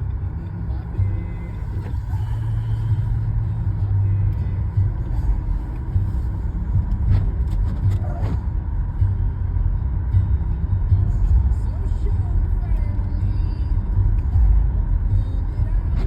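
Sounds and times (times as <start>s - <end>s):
motor vehicle engine rumbling: 0.0s - 16.0s.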